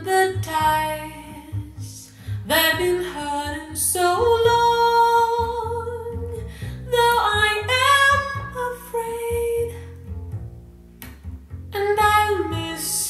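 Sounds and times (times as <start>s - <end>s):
woman singing: 0.0s - 10.0s, 11.8s - 13.0s
instrumental backing music: 0.0s - 13.0s.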